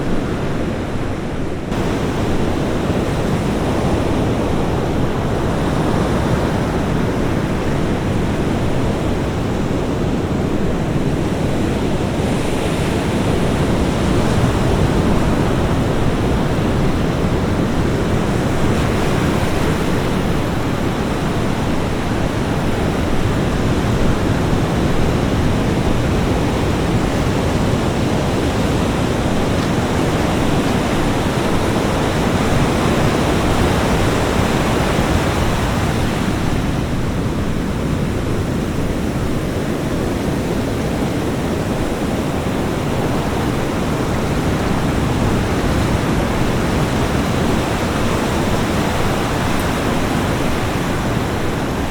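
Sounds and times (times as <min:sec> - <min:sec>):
ocean waves washing onto beach: 0:00.0 - 0:51.9.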